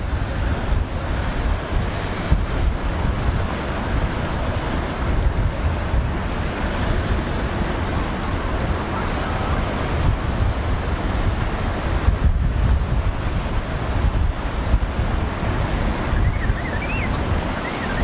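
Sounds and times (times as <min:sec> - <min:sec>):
surf and breaking waves: 0:00.0 - 0:18.0
wind buffeting microphone: 0:00.0 - 0:18.0.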